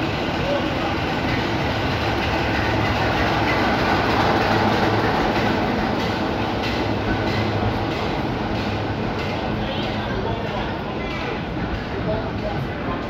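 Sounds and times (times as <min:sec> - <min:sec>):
diesel locomotive engine hum: 0:00.0 - 0:13.0
train wheels clicking on rail joints: 0:00.0 - 0:13.0.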